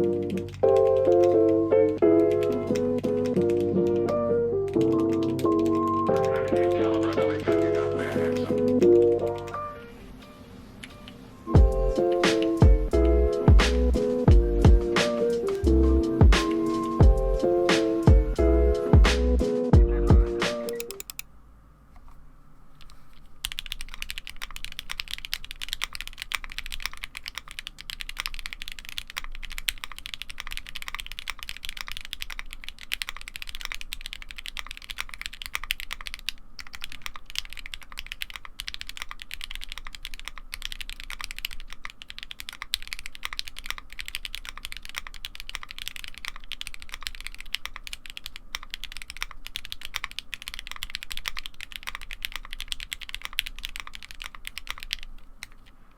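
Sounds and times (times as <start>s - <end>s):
mechanical keyboard typing: 0.0s - 11.2s, 20.5s - 21.3s, 22.8s - 55.8s.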